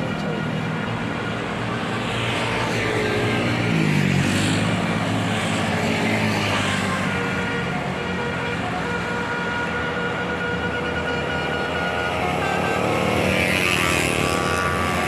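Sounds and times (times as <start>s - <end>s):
bus engine passing by: 0.0s - 15.0s.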